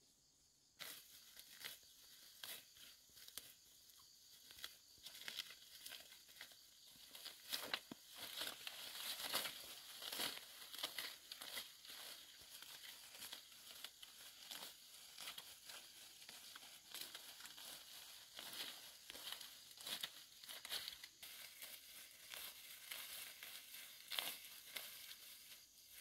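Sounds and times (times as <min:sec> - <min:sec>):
undergrowth rustling and tearing: 0:00.8 - 0:26.0.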